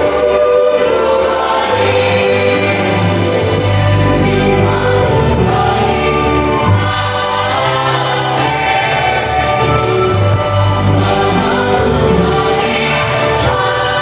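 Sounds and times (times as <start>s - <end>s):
vocal group singing harmony: 0.0s - 14.0s.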